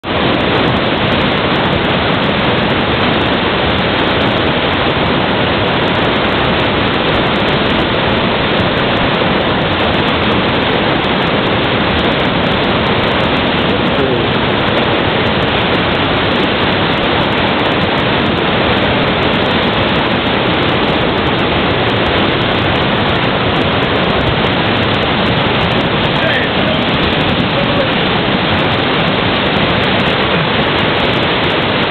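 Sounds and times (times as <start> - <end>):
whitewater rapids rushing: 0.0 - 31.9.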